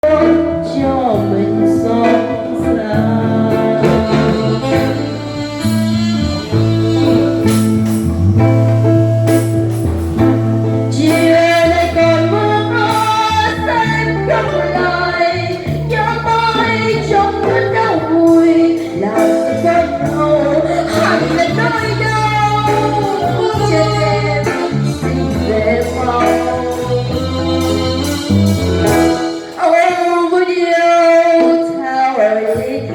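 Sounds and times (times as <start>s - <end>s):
bass notes: 0.0s - 30.8s
saxophone melody: 0.0s - 30.9s
guitar accompaniment: 0.0s - 32.9s.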